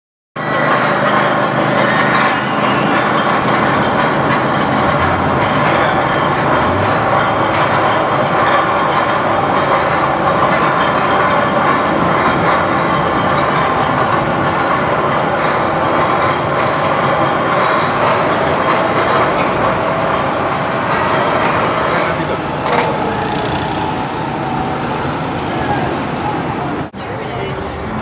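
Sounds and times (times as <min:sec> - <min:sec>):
roller coaster lift clatter: 0:00.4 - 0:28.0.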